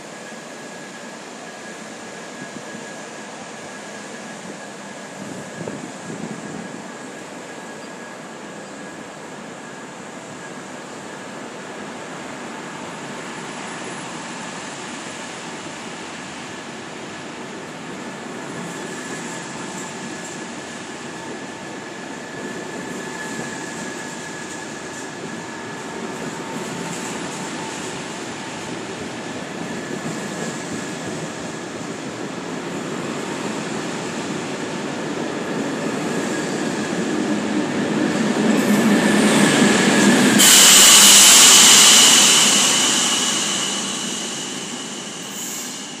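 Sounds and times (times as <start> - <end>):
electric locomotive high tone: 0.0 - 46.0
train coaches rumbling past: 0.0 - 46.0.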